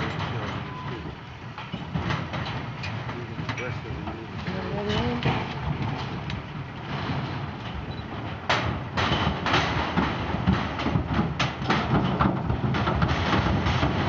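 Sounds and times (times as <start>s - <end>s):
hooves knocking on metal panels: 0.0s - 14.0s.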